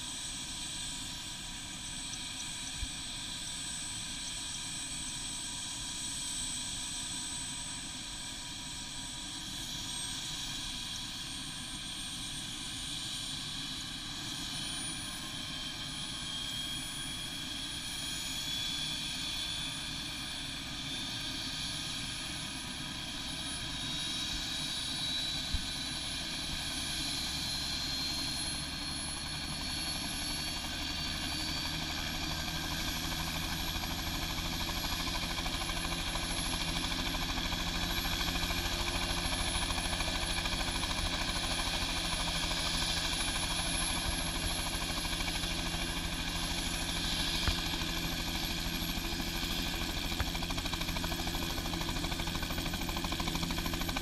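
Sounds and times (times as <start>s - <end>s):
helicopter running: 0.0s - 54.0s
turbine whine: 0.0s - 54.0s.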